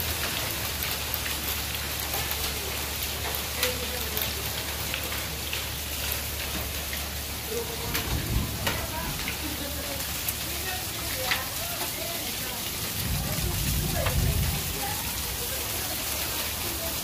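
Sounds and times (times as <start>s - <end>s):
hail pelting down: 0.0s - 17.0s
hailstones ticking on surfaces: 0.0s - 17.0s.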